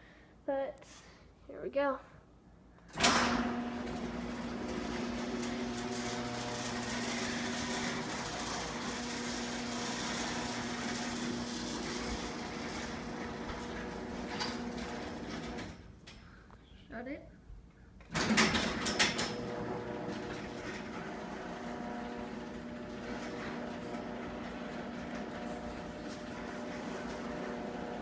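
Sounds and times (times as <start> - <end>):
garage door opener click: 2.9 - 15.9, 18.0 - 28.0
garage door opener motor humming: 2.9 - 16.0, 18.1 - 28.0.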